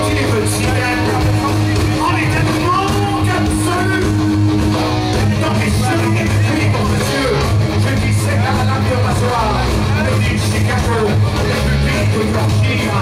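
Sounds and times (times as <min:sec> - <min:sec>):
bass guitar: 0:00.0 - 0:13.0
distorted electric guitars: 0:00.0 - 0:13.0
drums: 0:00.0 - 0:13.0.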